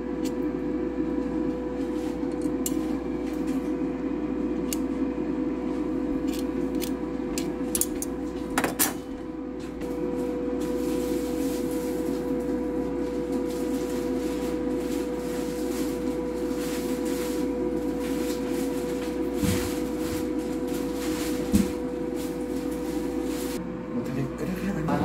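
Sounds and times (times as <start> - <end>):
air fryer humming and whining: 0.0 - 25.0.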